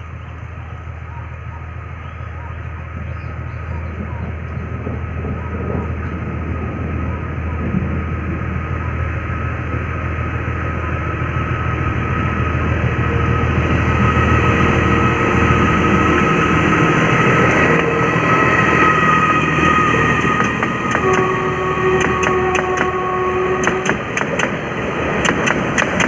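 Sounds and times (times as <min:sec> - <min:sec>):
diesel locomotive engine hum: 0:00.0 - 0:26.0.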